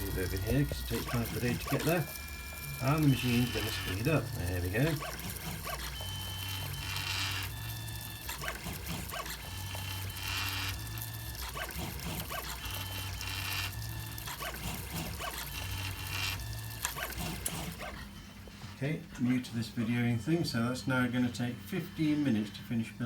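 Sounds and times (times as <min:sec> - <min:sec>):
stepper motors whining: 0:00.0 - 0:18.8.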